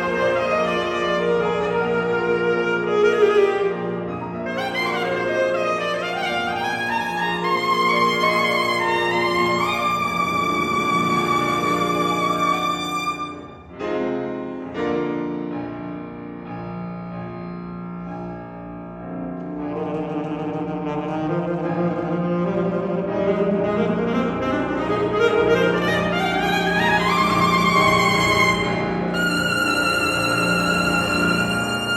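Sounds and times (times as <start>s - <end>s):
saxophone: 0.0s - 13.7s, 19.6s - 31.9s
piano chords: 0.0s - 31.9s.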